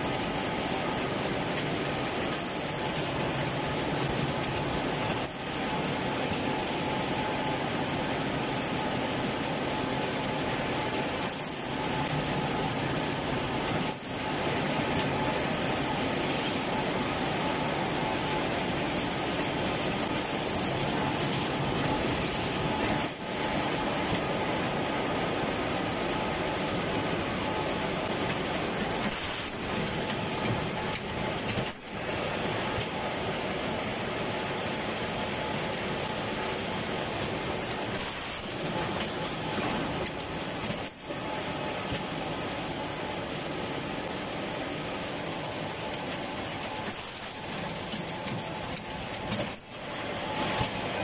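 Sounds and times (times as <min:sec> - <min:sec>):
packing machine clatter and hum: 0:00.0 - 0:51.0.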